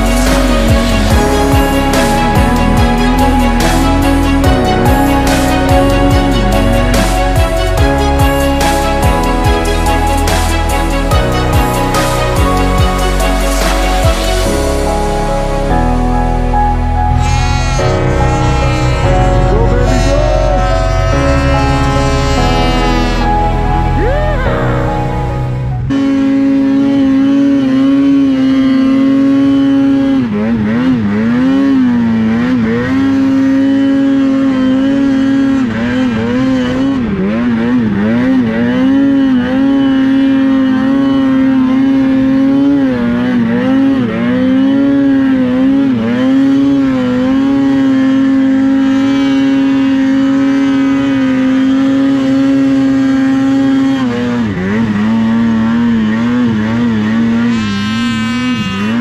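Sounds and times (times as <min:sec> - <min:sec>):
snowmobile engine at high revs: 0:00.0 - 0:59.0.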